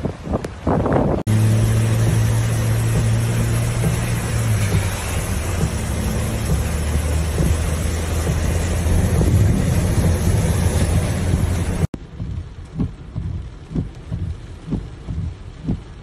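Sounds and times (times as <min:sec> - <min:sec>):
wind buffeting microphone: 0:00.0 - 0:01.3, 0:02.1 - 0:16.0
wind and road rumble: 0:00.0 - 0:16.0
windscreen wiper thumps: 0:00.0 - 0:16.0
rain hiss: 0:00.2 - 0:16.0.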